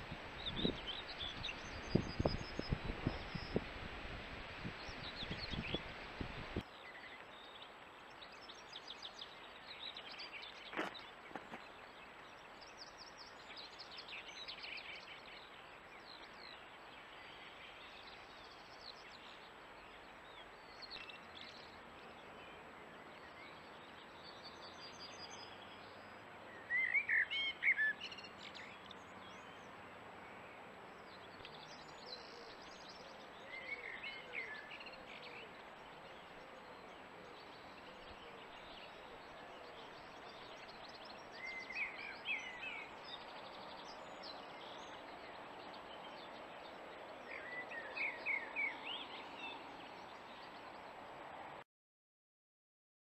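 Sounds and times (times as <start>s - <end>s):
bird calls and song: 0.0s - 51.0s
steady background hiss: 0.0s - 51.6s.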